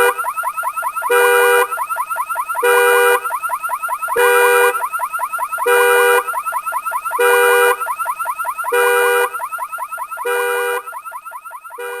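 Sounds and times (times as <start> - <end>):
car alarm chirping: 0.0 - 12.0.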